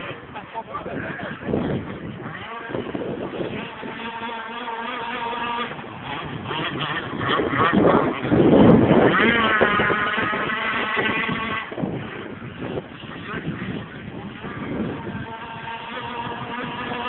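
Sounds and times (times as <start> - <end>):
boat two-stroke engine revving: 0.0 - 17.0.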